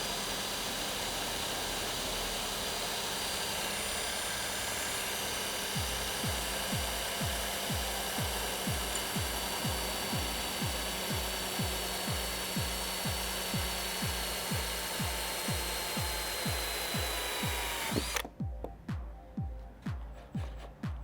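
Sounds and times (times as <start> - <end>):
electric drill cutting plastic: 0.0 - 18.3.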